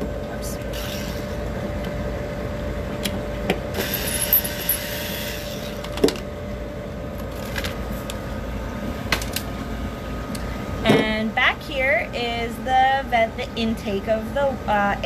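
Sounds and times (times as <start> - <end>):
chiller humming: 0.0 - 15.0.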